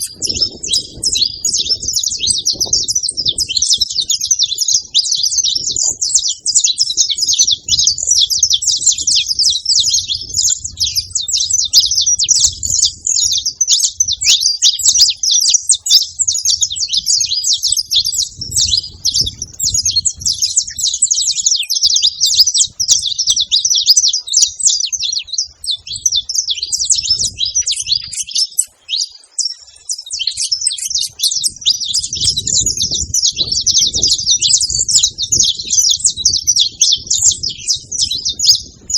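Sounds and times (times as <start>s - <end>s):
finches chirping: 0.0s - 38.9s.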